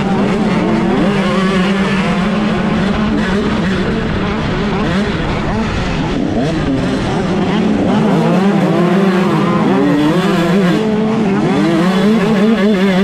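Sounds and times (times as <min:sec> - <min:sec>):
motocross bike engine revving: 0:00.0 - 0:13.0
other motorbike engines: 0:00.0 - 0:13.0.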